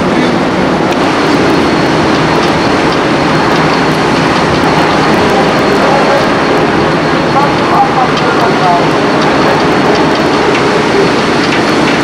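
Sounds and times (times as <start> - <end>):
rushing and rumbling on ship deck: 0.0 - 12.0.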